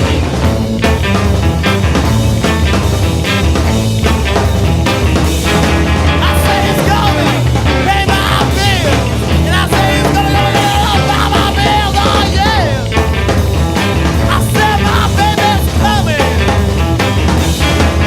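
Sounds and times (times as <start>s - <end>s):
melodic lead guitar line: 0.0s - 18.0s
rock music with full band: 0.0s - 18.0s.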